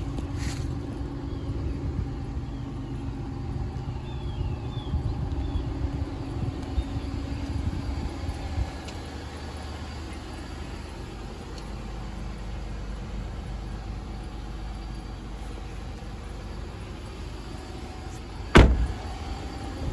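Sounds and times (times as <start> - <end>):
low vehicle rumble: 0.0 - 19.9.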